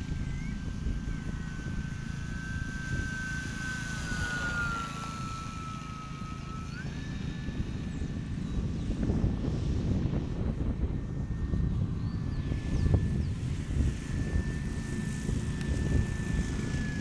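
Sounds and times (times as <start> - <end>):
model airplane motor whining: 0.0 - 17.0
wind rumble on microphone: 0.0 - 17.0.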